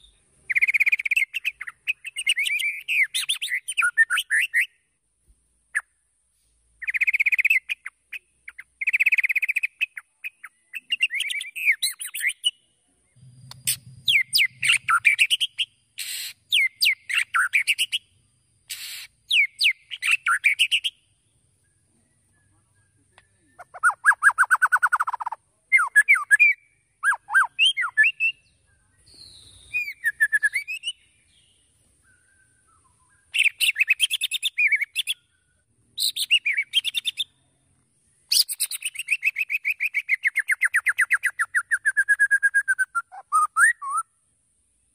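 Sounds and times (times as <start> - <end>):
bird singing whistles and trills: 0.0 - 4.8, 6.8 - 37.4, 38.2 - 44.2.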